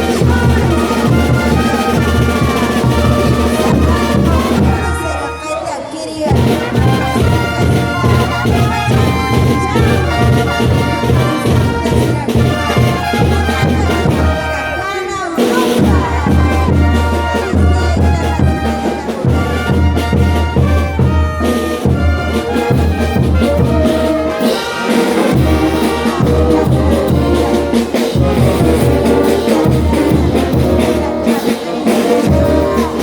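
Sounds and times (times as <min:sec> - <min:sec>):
brass band playing: 0:00.0 - 0:33.0.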